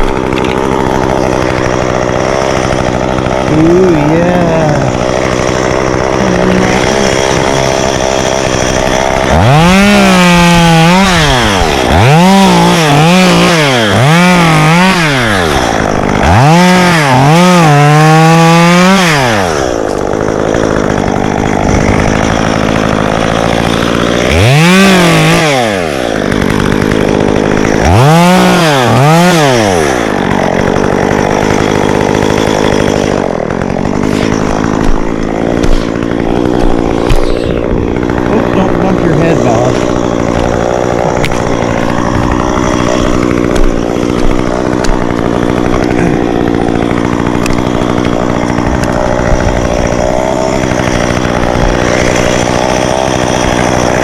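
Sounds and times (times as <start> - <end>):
chainsaw revving and idling: 0.0 - 54.0.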